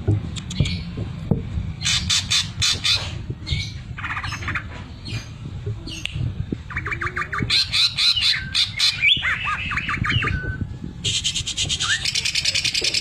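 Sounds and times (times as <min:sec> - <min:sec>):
bird singing chattering phrases: 0:00.4 - 0:01.0, 0:01.8 - 0:10.4, 0:11.1 - 0:13.0.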